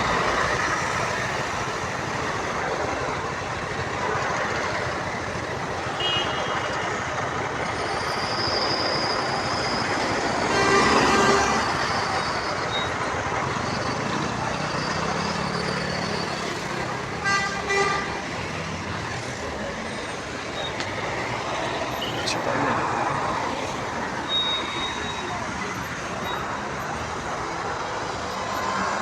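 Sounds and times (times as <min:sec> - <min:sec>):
passing vehicles hum: 0:00.0 - 0:29.0.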